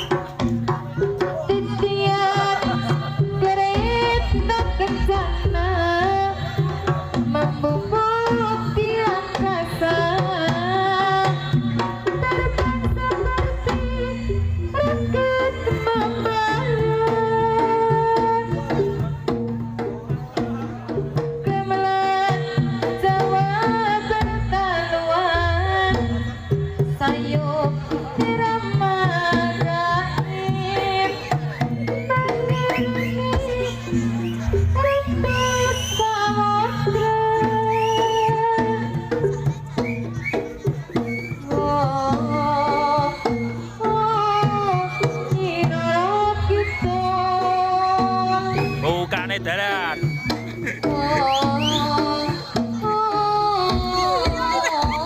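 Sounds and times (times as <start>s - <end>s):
hand drums beating: 0.0s - 55.0s.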